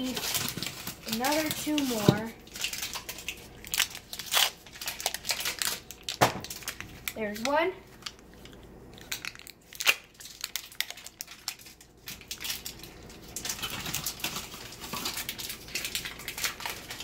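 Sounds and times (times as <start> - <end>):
paper wrapper crinkling: 0.0 - 17.0.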